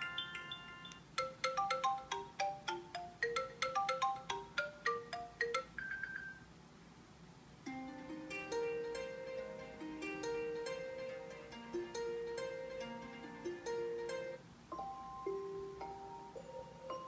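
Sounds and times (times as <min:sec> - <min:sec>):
ringtone melody: 0:00.0 - 0:06.5, 0:07.7 - 0:17.0.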